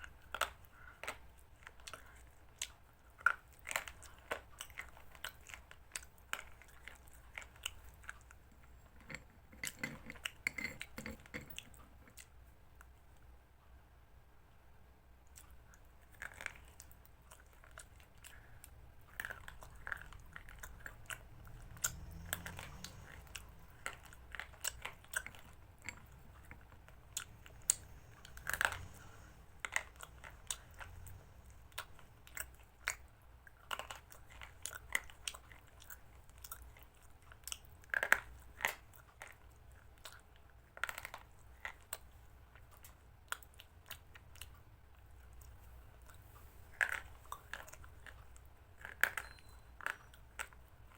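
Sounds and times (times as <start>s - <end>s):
person chewing and crunching food: 0.0s - 13.3s, 15.2s - 50.9s.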